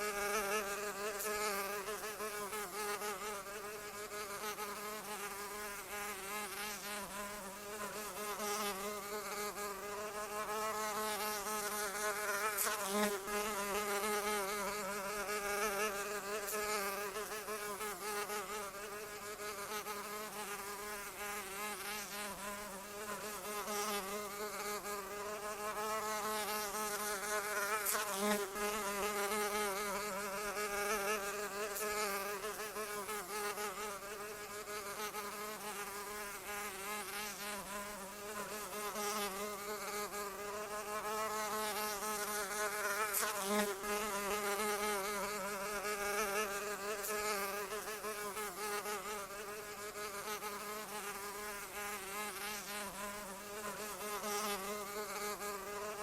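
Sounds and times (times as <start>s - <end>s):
flying insect buzzing: 0.0s - 56.0s.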